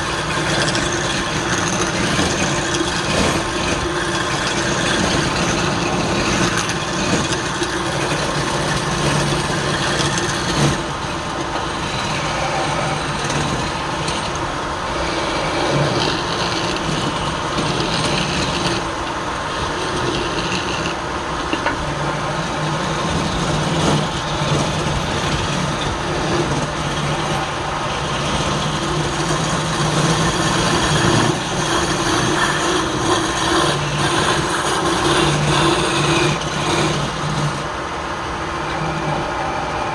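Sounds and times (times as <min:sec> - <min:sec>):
rasping of wood being turned: 0:00.0 - 0:37.8
lathe motor hum: 0:00.0 - 0:39.9.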